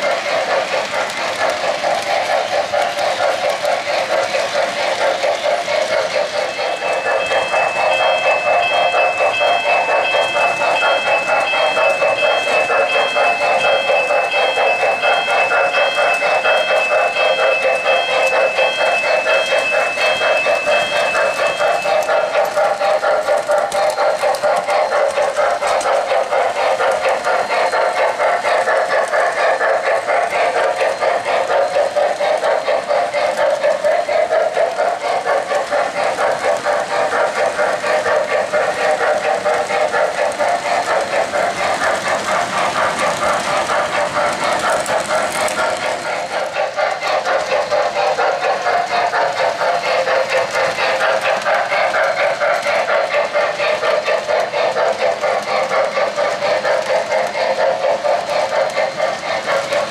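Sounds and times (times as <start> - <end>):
model train clattering on track: 0.0 - 59.9.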